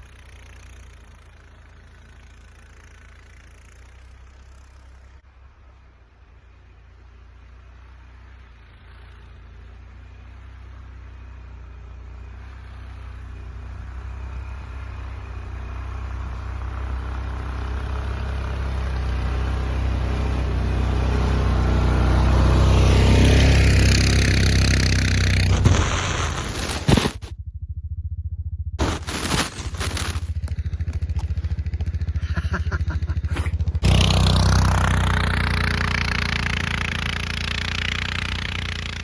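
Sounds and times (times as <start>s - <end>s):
vehicle engine approaching: 0.0s - 39.0s.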